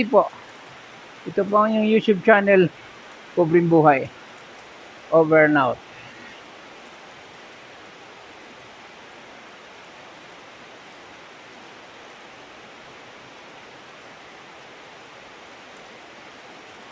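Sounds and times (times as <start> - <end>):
heavy rain pouring: 0.0 - 16.9.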